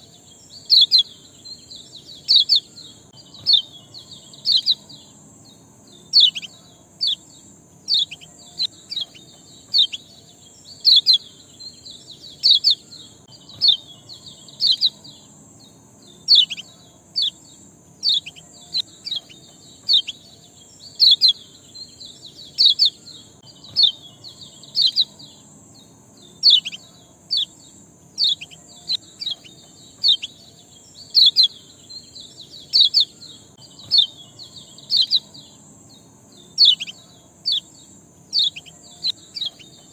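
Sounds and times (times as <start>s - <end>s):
songbird chirping: 0.0s - 39.9s
steady high hiss: 0.0s - 39.9s.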